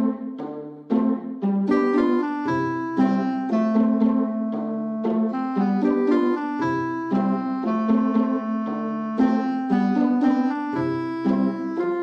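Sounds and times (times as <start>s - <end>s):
piano music: 1.7s - 12.0s.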